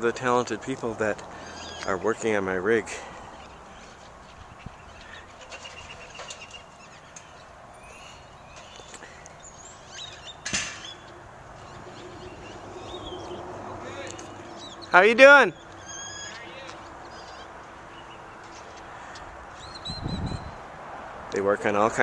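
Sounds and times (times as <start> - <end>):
faint outdoor background noise: 0.0 - 22.0.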